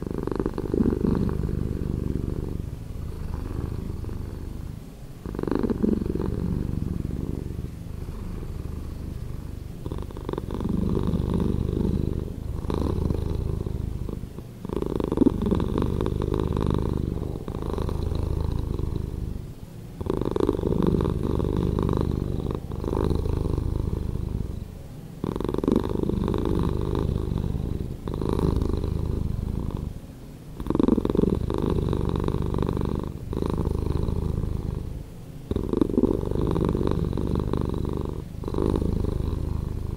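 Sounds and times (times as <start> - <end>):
slowed cat purring: 0.0 - 39.9.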